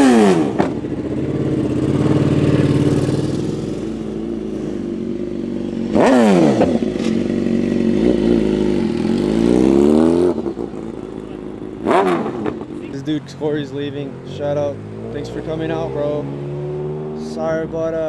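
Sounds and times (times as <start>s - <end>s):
engine accelerating: 0.0s - 18.0s
vehicle engines pulling away: 0.0s - 18.0s.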